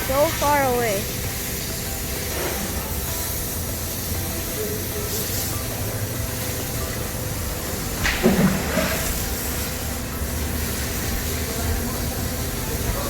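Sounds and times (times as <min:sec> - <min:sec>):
car wash water spray hissing: 0:00.0 - 0:13.0.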